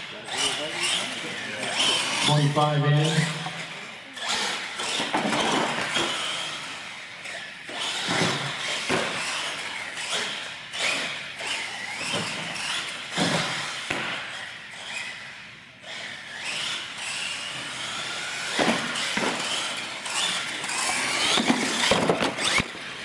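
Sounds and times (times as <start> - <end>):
toy truck motor whining: 0.0 - 23.0.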